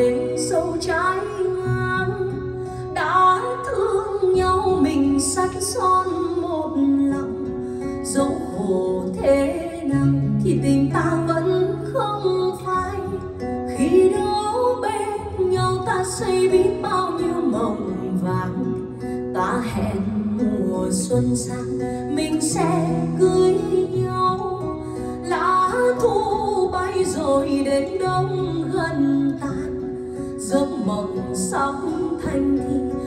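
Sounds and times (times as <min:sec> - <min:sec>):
acoustic guitar: 0:00.0 - 0:33.0
woman singing: 0:00.0 - 0:33.0.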